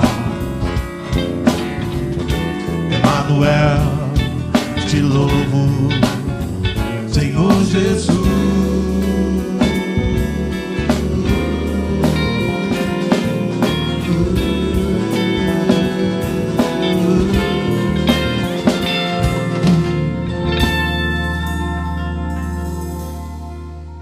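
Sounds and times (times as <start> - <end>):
live band playing instrumental: 0.0 - 24.0.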